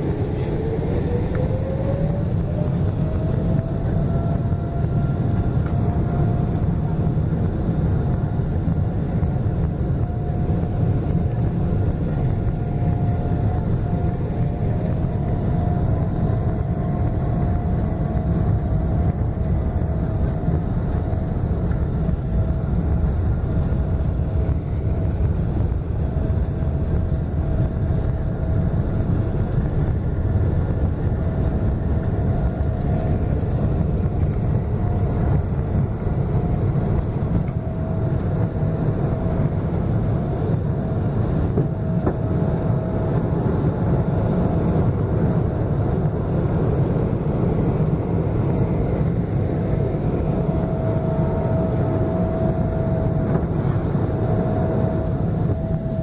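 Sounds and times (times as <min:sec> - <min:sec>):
jet engine deep rumble: 0:00.0 - 0:56.0
jet engine thin whine: 0:00.0 - 0:56.0.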